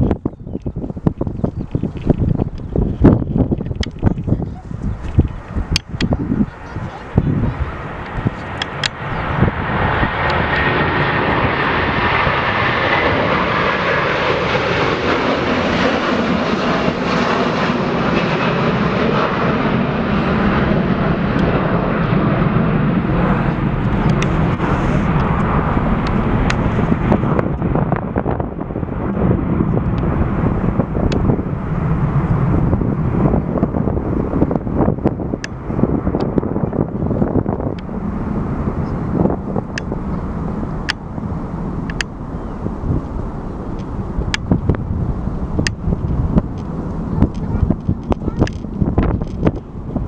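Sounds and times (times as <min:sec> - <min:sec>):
jet airliner engines: 0:00.0 - 0:50.0.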